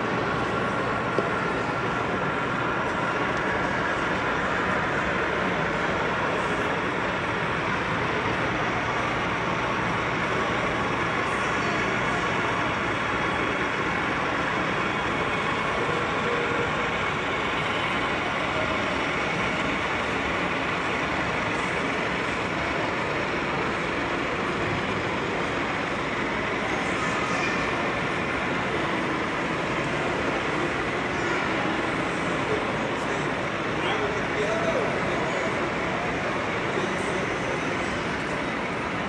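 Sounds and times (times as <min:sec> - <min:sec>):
busy hall din: 0:00.0 - 0:39.0
model trains running: 0:00.0 - 0:39.0.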